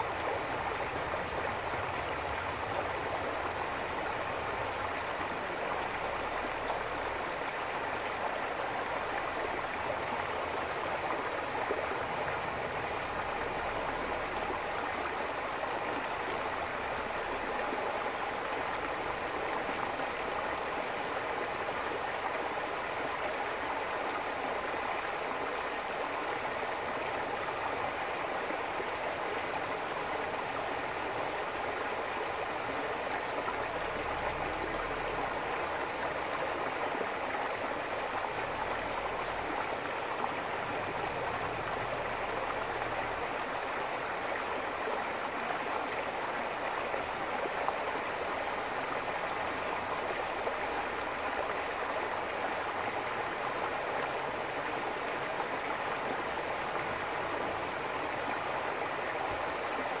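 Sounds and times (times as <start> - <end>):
stream flowing over stones: 0.0 - 60.0.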